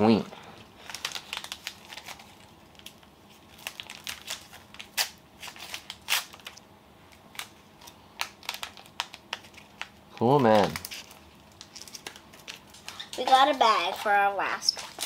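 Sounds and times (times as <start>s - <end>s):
plastic packaging crinkling: 0.6s - 15.0s.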